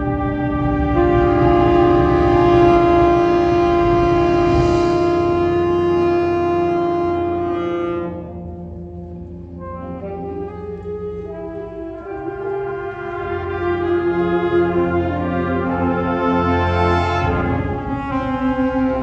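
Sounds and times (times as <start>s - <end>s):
concert band playing chords: 0.0s - 19.0s.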